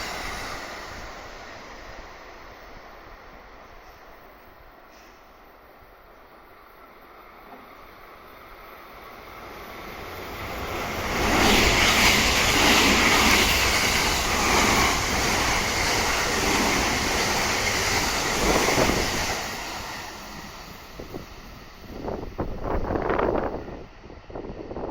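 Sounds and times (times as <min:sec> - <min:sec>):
train wheels rushing on rails: 0:00.0 - 0:24.9.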